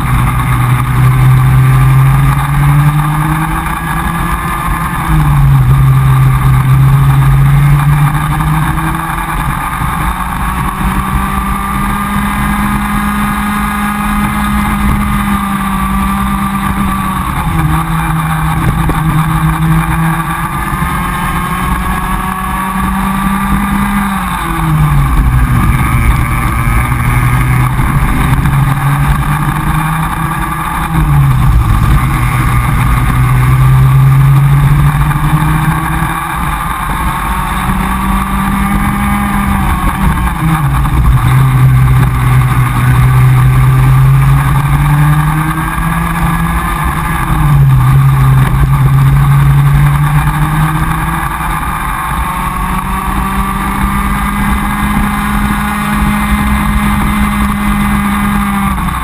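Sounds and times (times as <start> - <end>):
kart two-stroke engine racing: 0.0 - 59.0.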